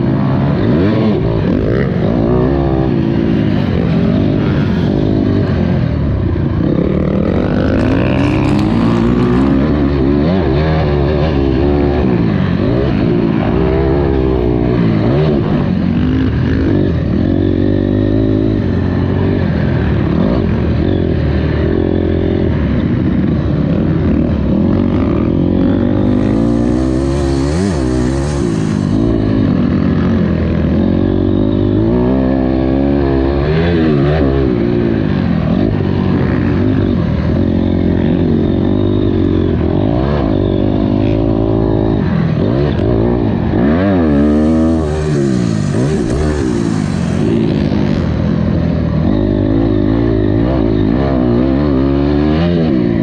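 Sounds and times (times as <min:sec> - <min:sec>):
motocross bike engine revving: 0:00.0 - 0:53.0.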